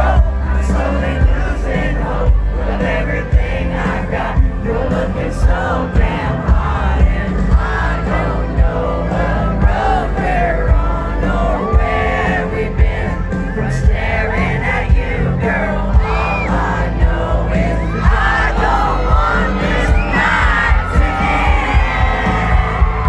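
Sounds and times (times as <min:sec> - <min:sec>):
country band playing live: 0:00.0 - 0:23.0
crowd cheering and singing along: 0:00.0 - 0:23.0
person singing: 0:00.0 - 0:23.0.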